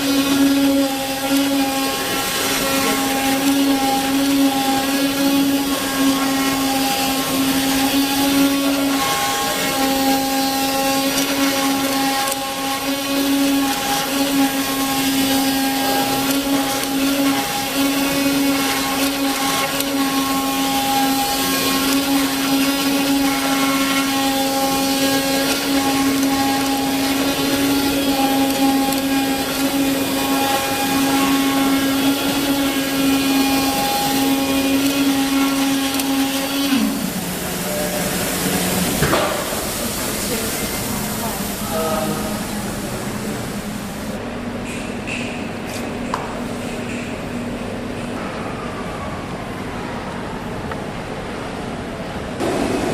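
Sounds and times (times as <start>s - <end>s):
machine motor hum: 0.0s - 44.2s, 52.4s - 52.9s.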